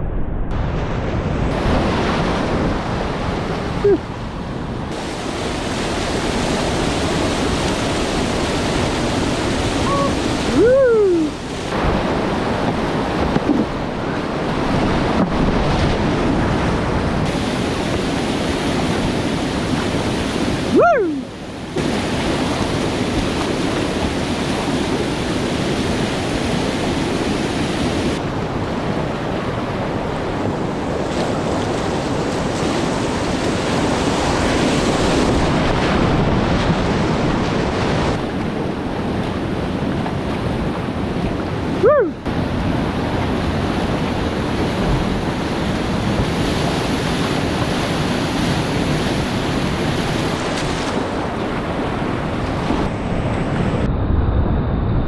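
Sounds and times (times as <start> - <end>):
whitewater rushing: 1.5 - 53.8.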